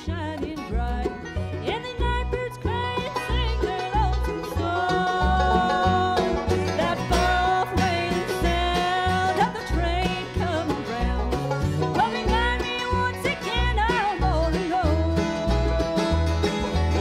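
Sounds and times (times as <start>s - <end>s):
woman singing: 0.0s - 16.5s
bluegrass band playing: 0.0s - 17.0s
upright bass beat: 0.0s - 17.0s.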